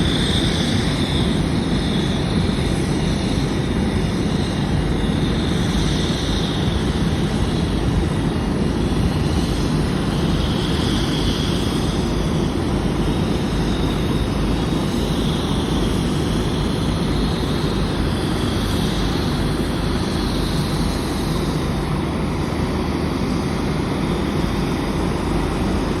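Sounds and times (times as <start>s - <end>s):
airliner jet noise: 0.0s - 26.0s.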